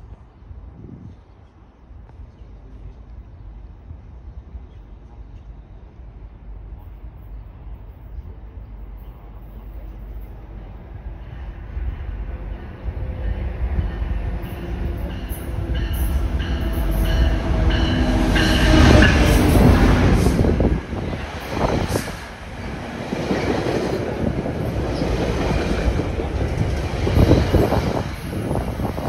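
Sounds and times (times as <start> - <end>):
train coaches rumbling with wheel clatter: 0.0 - 29.0
diesel locomotive passing: 3.6 - 29.0.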